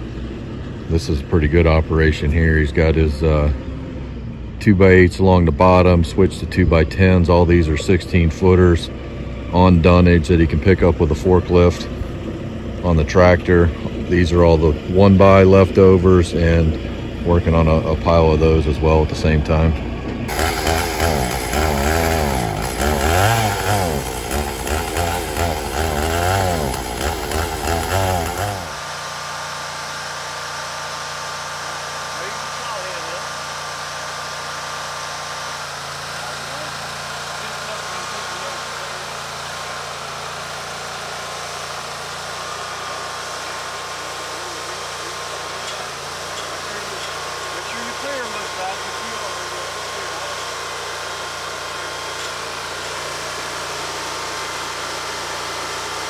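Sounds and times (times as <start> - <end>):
sawmill engine idling: 0.0 - 56.0
chainsaw revving: 8.4 - 19.6, 20.2 - 56.0.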